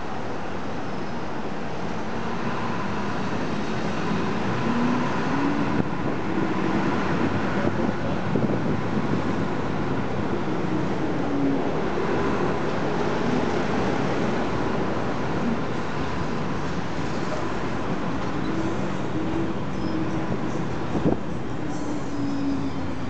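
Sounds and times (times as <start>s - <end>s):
bus engine hum: 0.0s - 23.0s
dense road traffic: 0.0s - 23.0s.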